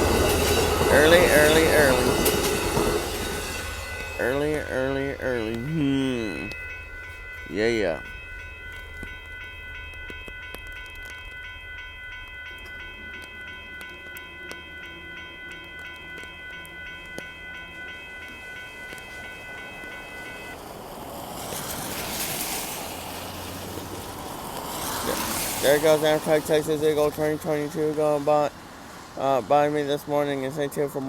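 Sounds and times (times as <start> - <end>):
crossing warning bell ringing: 0.0 - 31.0
train rushing noise: 0.0 - 31.0
wheels clicking on rails: 0.0 - 31.0.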